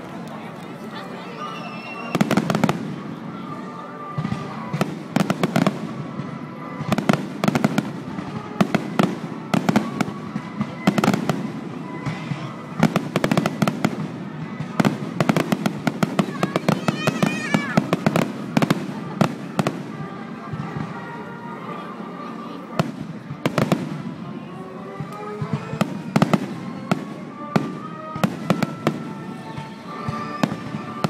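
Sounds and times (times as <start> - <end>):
fireworks bangs and crackles: 0.0 - 21.5, 22.6 - 31.0.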